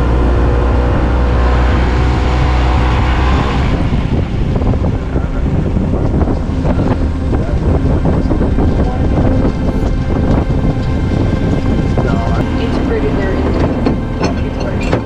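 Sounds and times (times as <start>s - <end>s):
small boat motor running: 0.0s - 15.0s
wind buffeting microphone: 0.0s - 15.0s.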